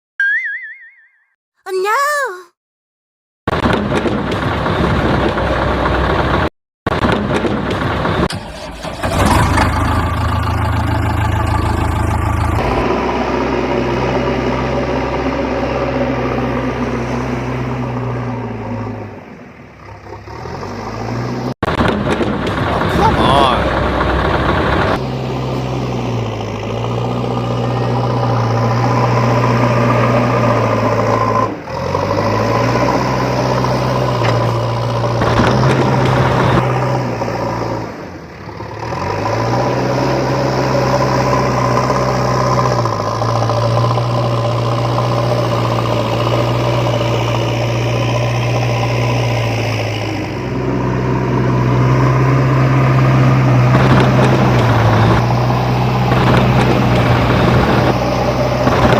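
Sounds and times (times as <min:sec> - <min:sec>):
truck engine running: 0:03.5 - 0:58.9.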